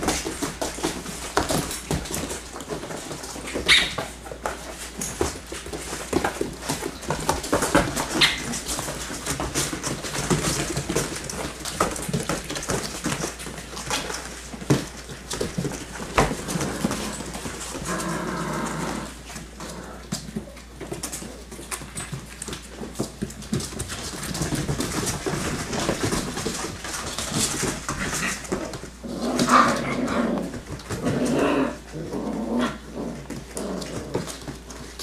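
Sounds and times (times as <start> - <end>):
puppy paws scuffling: 0.0 - 35.0.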